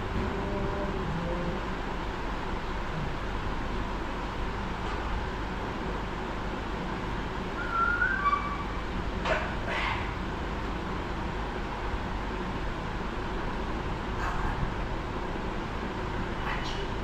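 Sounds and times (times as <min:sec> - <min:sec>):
room background noise: 0:00.0 - 0:17.0.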